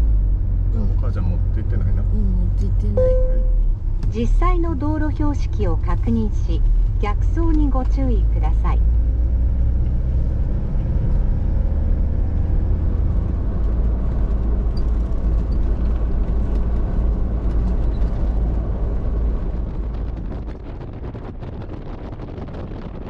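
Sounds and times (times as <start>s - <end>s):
road and engine rumble inside vehicle: 0.0s - 23.0s.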